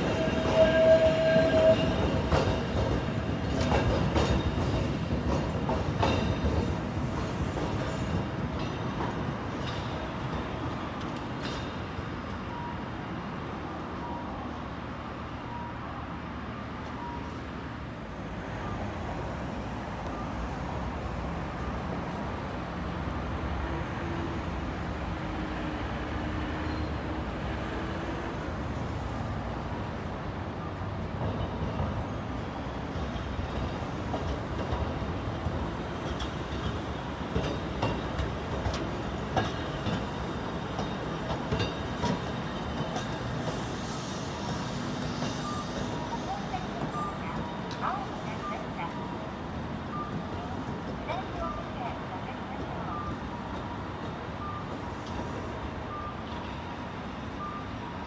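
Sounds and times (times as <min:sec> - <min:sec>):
street traffic noise: 0:00.0 - 0:58.0
tram rumbling on track: 0:00.0 - 0:58.0.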